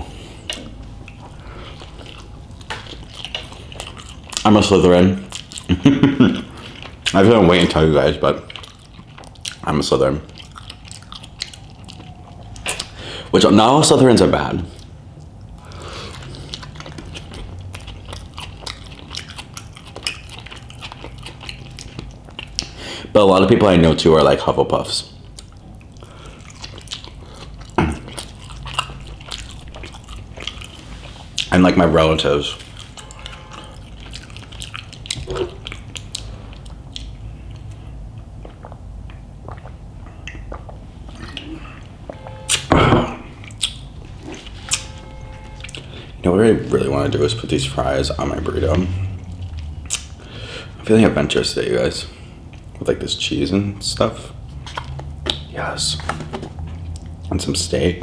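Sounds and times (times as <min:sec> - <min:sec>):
close-up wet chewing: 0:00.1 - 0:13.3, 0:14.6 - 0:53.1, 0:54.0 - 0:57.6.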